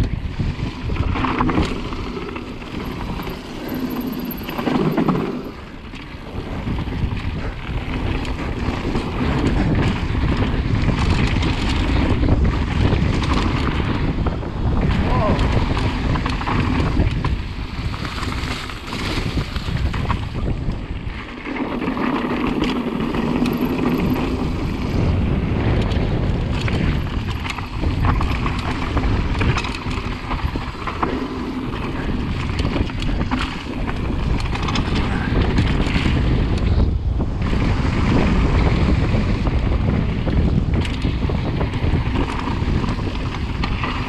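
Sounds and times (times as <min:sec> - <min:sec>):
bike rattling and knocking: 0:00.0 - 0:44.0
wind on microphone: 0:00.0 - 0:44.0
tyres rumbling on dirt: 0:00.2 - 0:44.0.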